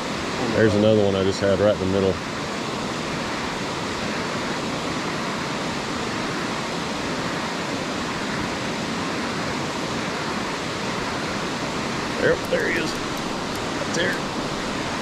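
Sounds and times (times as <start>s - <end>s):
river water rushing over rock: 0.0s - 15.0s.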